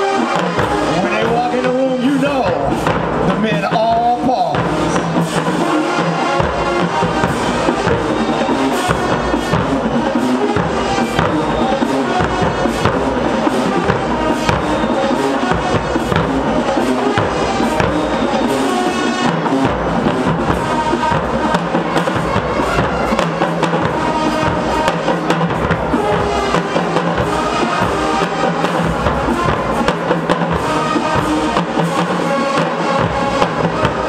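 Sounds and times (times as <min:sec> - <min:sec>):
brass and sousaphones playing: 0:00.0 - 0:34.0
steady drum beat: 0:00.0 - 0:34.0.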